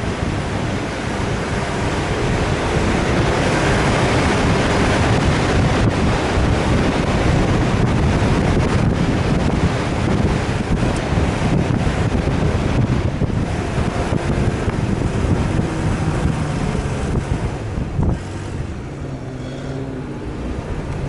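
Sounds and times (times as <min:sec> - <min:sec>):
low vehicle rumble: 0:00.0 - 0:21.0
wind buffeting microphone: 0:00.0 - 0:21.0.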